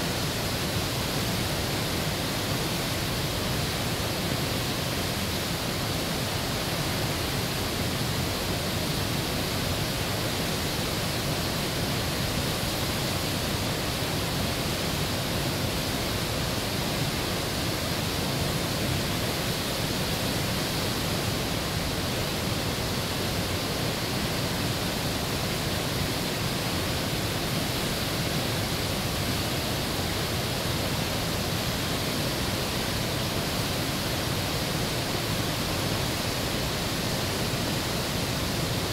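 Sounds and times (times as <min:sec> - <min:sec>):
whitewater rushing over rocks: 0:00.0 - 0:38.9.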